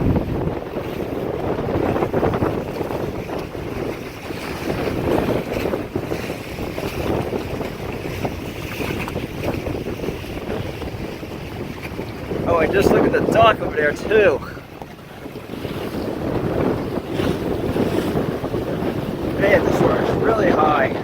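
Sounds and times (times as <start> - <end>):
rushing water: 0.0 - 21.0
wind buffeting microphone: 0.0 - 21.0.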